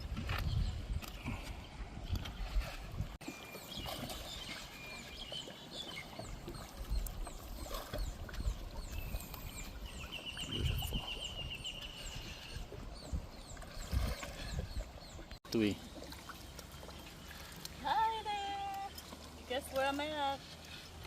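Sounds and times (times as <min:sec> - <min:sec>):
birds chirping: 0:03.2 - 0:21.0.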